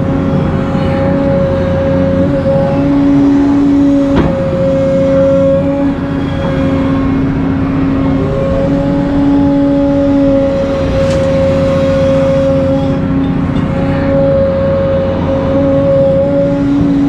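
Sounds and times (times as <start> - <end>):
excavator engine rumbling: 0.0 - 17.0
hydraulic whine: 0.0 - 17.0.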